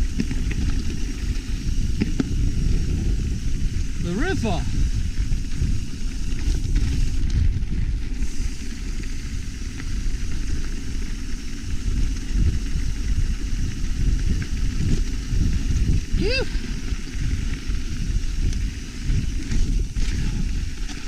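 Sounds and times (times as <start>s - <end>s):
bike tyre and trail noise: 0.0s - 21.0s
wind rumbling on microphone: 0.0s - 21.0s.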